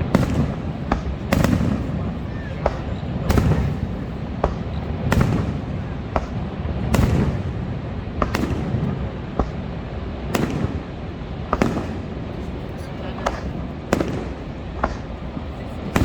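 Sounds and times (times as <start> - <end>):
constant low roar: 0.0 - 16.0
fireworks bangs: 0.0 - 16.0.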